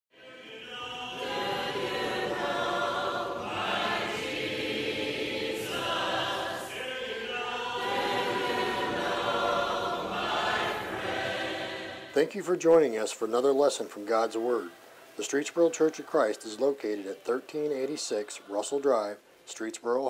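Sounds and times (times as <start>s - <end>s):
choir singing a hymn: 0.2s - 20.0s.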